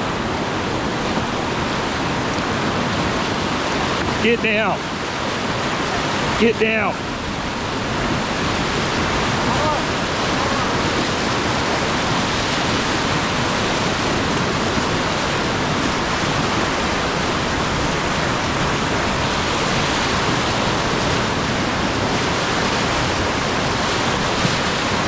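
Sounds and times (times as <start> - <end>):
whitewater rushing: 0.0 - 25.0.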